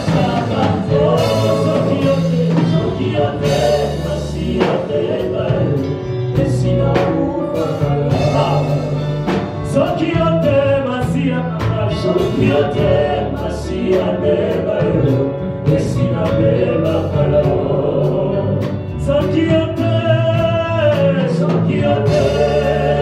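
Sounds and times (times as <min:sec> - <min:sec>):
singers over a band: 0:00.0 - 0:18.7, 0:19.5 - 0:23.0
held bass line: 0:00.0 - 0:23.0.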